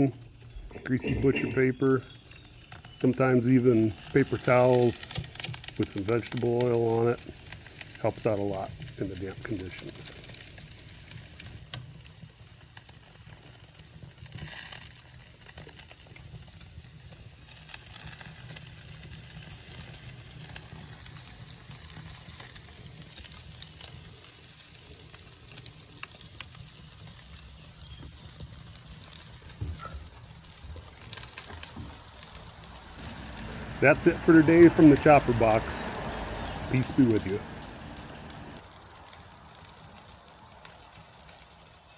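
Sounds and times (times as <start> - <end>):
wood fire crackling and hissing: 0.0 - 41.9.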